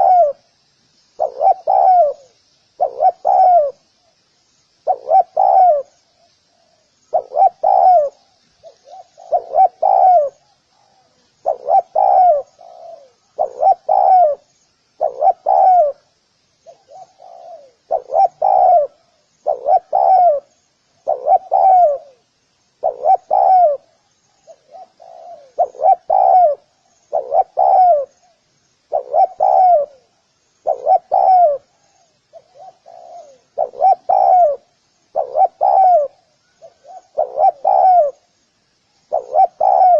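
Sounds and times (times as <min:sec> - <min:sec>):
dove cooing: 0:00.0 - 0:00.5, 0:01.2 - 0:03.9, 0:04.8 - 0:38.3, 0:39.1 - 0:39.9
small birds chirping: 0:00.0 - 0:39.9.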